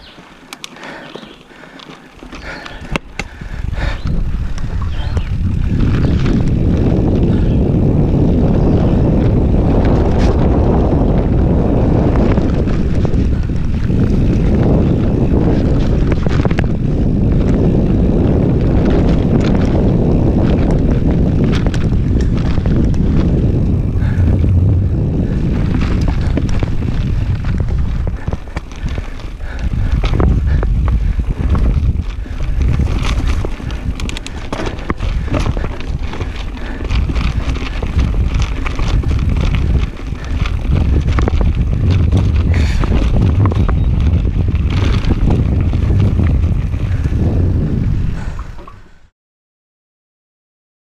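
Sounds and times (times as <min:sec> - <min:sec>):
bike clicking and rattling: 0:00.0 - 0:49.1
wind buffeting microphone: 0:00.0 - 0:49.1.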